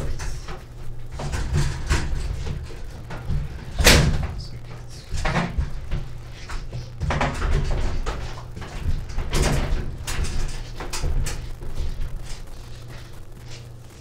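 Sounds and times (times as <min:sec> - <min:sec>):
kitchen items knocking and bumping: 0:00.0 - 0:13.0
steady low hum: 0:00.0 - 0:14.0.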